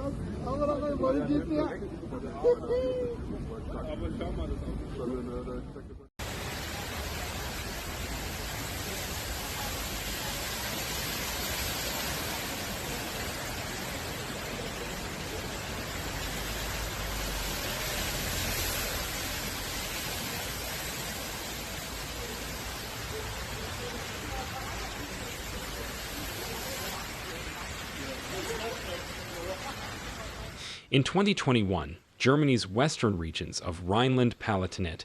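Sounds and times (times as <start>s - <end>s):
rushing floodwater: 6.2s - 35.0s.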